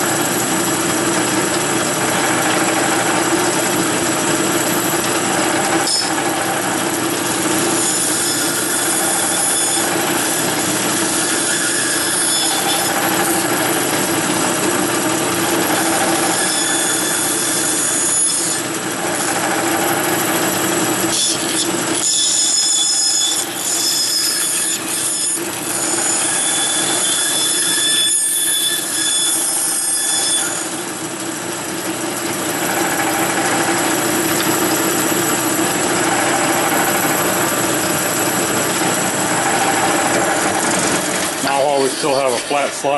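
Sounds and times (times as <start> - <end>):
bandsaw cutting wood: 0.0 - 42.9.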